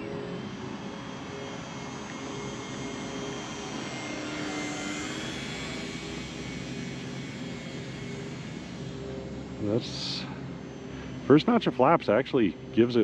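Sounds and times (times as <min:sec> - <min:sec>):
model plane propeller drone: 0:00.0 - 0:13.0.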